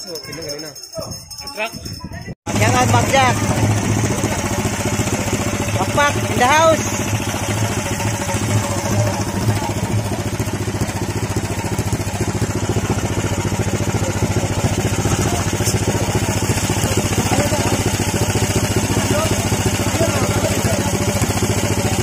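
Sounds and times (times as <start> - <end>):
small engine at fast idle: 2.5 - 22.0.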